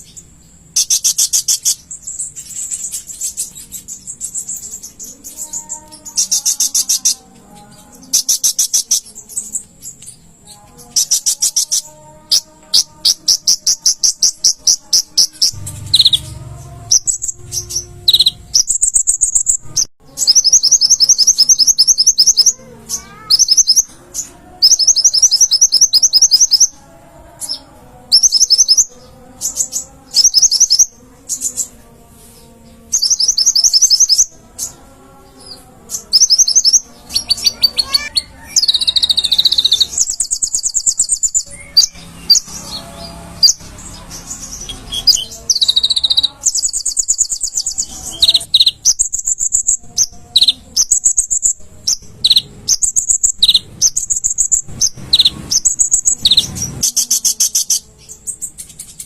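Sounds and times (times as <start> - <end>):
sunbird high chattering trills: 0.0 - 10.2, 10.8 - 26.8, 36.0 - 59.0.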